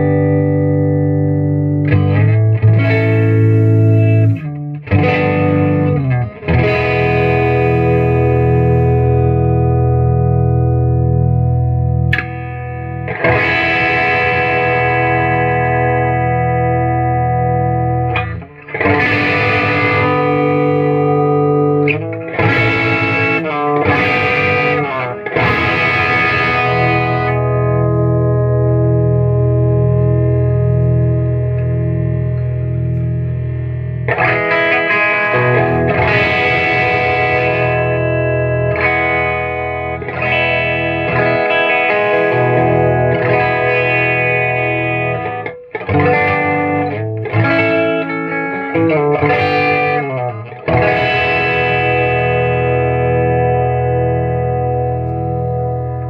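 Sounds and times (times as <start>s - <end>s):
distorted electric guitar chords: 0.0s - 56.0s.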